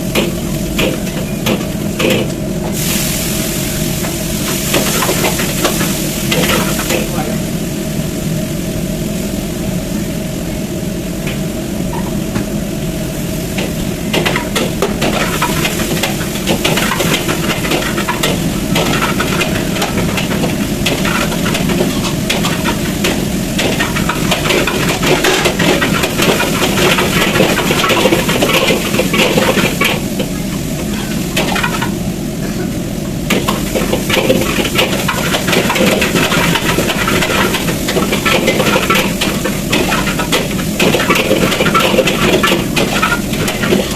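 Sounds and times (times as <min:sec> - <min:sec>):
food sizzling in a wok: 0:00.0 - 0:32.4, 0:33.2 - 0:43.9
gas burner roaring: 0:00.0 - 0:43.9.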